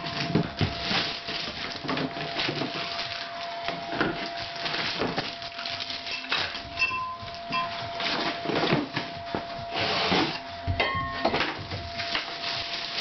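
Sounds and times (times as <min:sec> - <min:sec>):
wrapping paper tearing and crumpling: 0:00.0 - 0:06.7, 0:07.3 - 0:10.7, 0:11.6 - 0:13.0.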